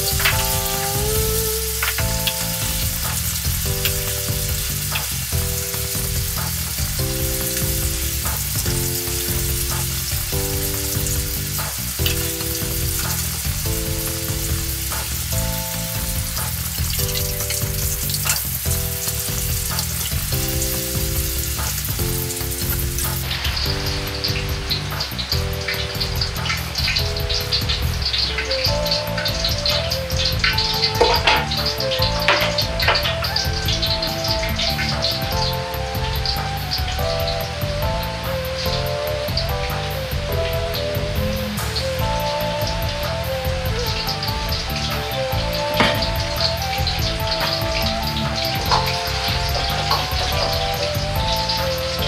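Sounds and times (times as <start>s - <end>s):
oil sizzling in wok: 0.0s - 52.0s.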